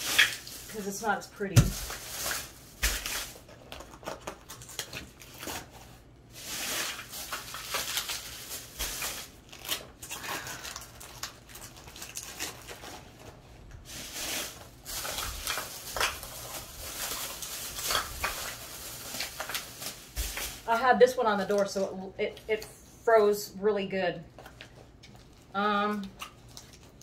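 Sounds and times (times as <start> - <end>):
gel ice packs crinkling against fabric: 0.0 - 21.8, 24.3 - 27.0.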